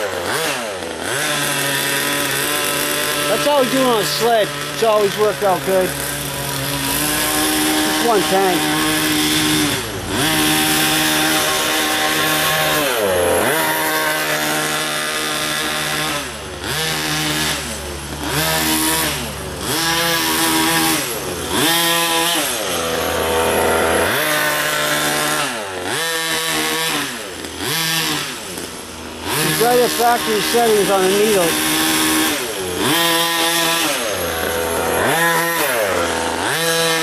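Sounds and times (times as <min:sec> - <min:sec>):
small two-stroke engine revving: 0:00.0 - 0:37.0.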